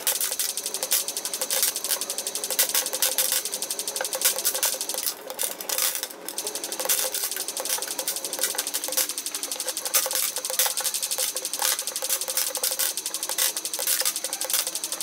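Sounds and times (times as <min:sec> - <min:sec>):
steady hum: 0:00.0 - 0:15.0
toy figures rattling on concrete: 0:00.0 - 0:15.0.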